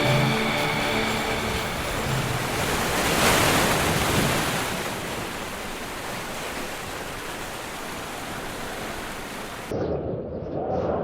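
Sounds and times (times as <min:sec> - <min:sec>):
waterfall rushing water: 0:00.0 - 0:09.7.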